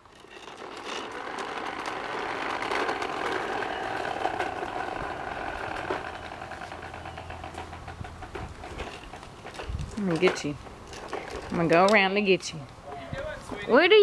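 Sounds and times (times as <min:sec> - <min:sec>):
toy lawnmower running: 0:00.0 - 0:11.5.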